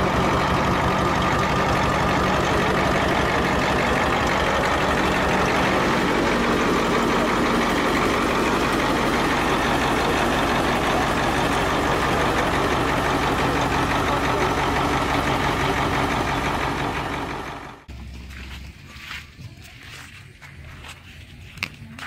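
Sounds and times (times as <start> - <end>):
diesel engine running loudly: 0.0 - 19.2.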